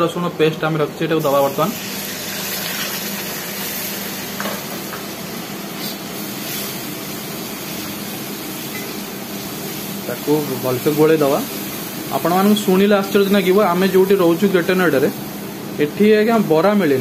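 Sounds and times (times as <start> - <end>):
onions sizzling in oil: 1.2 - 17.0.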